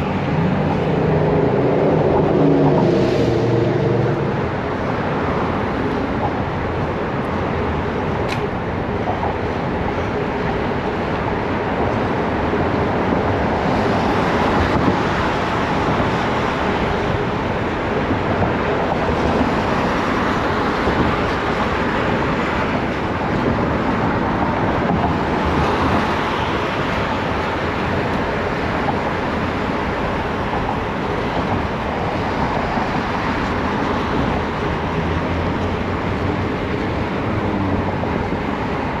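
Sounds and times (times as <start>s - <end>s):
passing vehicles: 0.0s - 39.0s.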